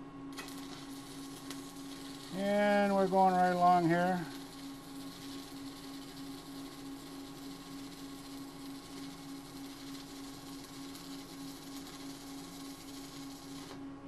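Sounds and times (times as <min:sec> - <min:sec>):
welding arc hissing: 0:00.0 - 0:13.9
low hum: 0:00.0 - 0:14.0.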